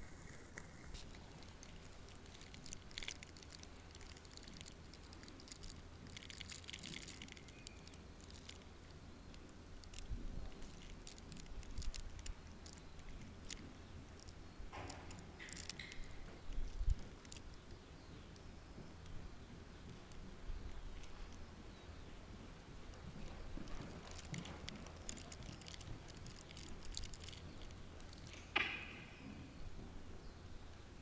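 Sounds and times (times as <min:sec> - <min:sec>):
low rumble of large indoor space: 0:00.0 - 0:31.0.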